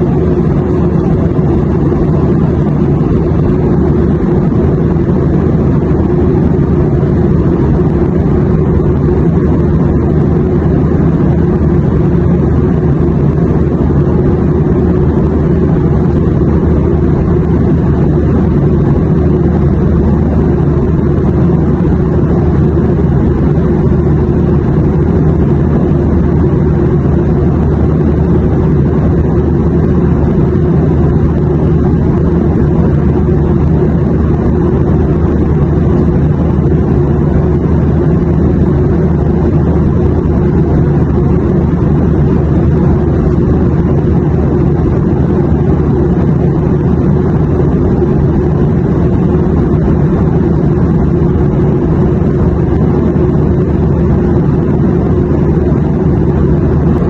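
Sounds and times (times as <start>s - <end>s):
airplane engine rumble: 0.0s - 57.0s
faint hum: 0.0s - 57.0s.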